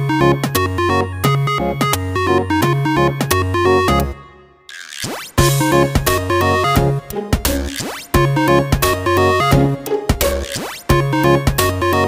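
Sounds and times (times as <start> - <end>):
electronic music with synthesizer: 0.0 - 12.0.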